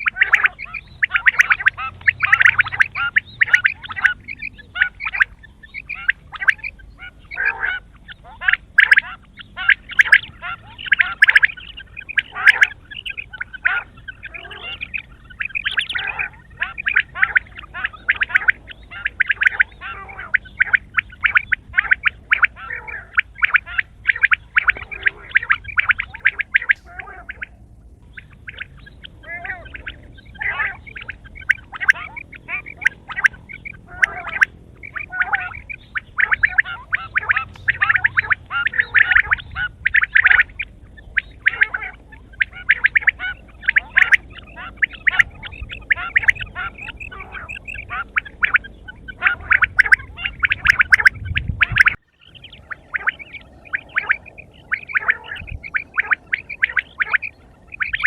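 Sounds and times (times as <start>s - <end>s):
quail chattering calls: 0.0s - 58.0s.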